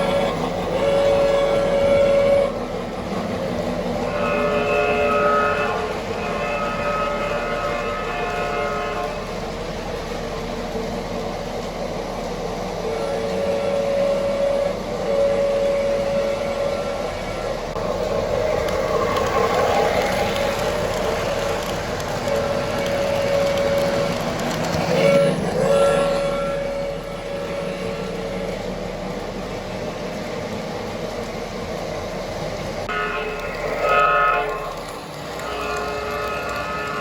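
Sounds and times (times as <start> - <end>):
two-note train horn: 0.0 - 9.6, 12.6 - 17.9, 19.0 - 30.0, 32.8 - 37.0
model train rumbling: 0.0 - 37.0.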